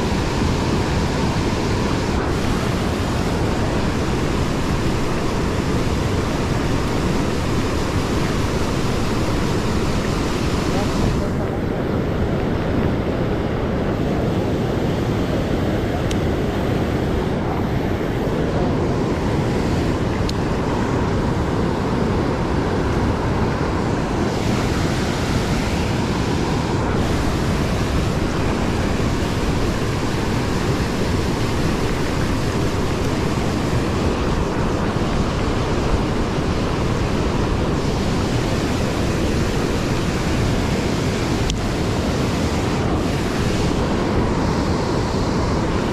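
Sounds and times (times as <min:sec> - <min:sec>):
river rushing over weir: 0:00.0 - 0:45.9.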